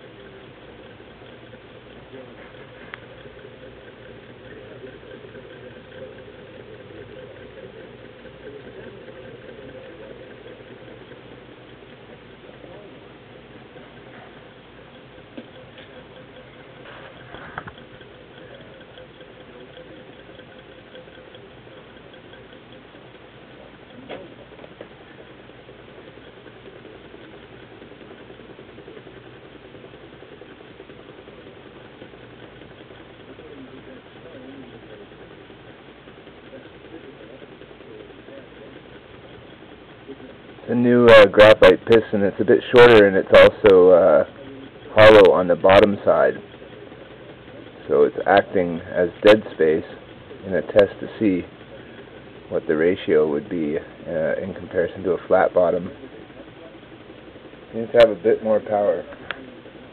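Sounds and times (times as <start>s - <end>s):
stirling engine running: 0.0s - 59.9s.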